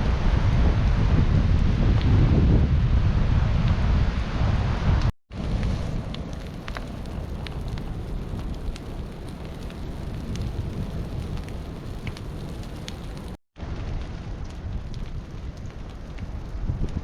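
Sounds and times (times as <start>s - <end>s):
forest fire burning: 0.0s - 17.0s
wind buffeting microphone: 0.0s - 17.0s.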